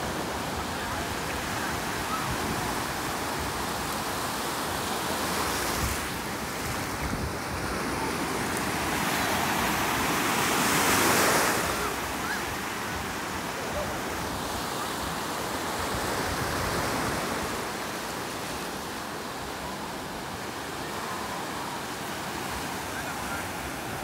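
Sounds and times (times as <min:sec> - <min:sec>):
ocean waves breaking on sand: 0:00.0 - 0:24.0.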